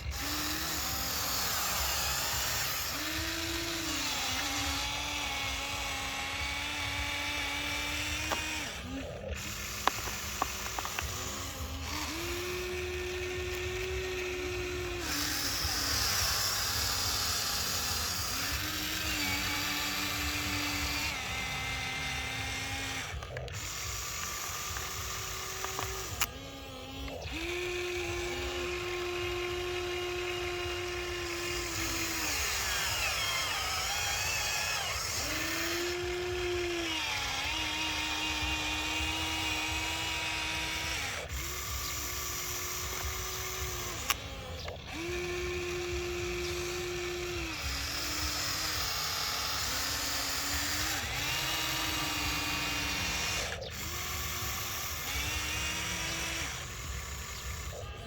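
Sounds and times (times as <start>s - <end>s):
toy electric motor whirring: 0.0s - 58.0s.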